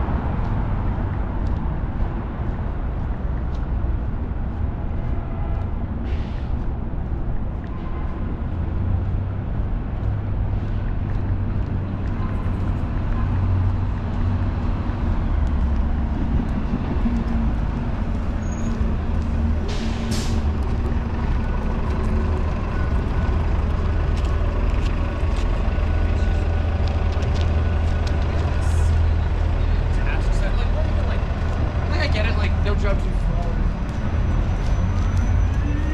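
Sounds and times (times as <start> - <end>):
city street traffic: 0.0 - 35.9
heavy vehicle engine rumbling: 0.0 - 35.9.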